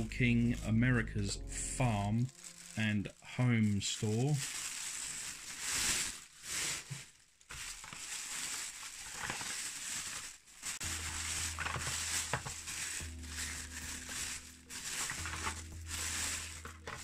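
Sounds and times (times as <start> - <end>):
plastic bags crinkling: 1.4 - 17.0.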